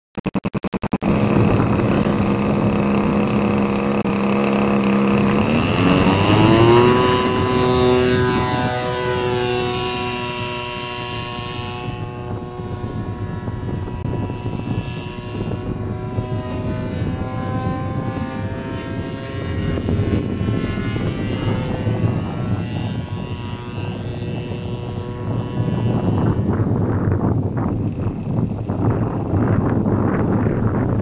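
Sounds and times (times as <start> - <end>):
model plane engine running: 0.2 - 31.0.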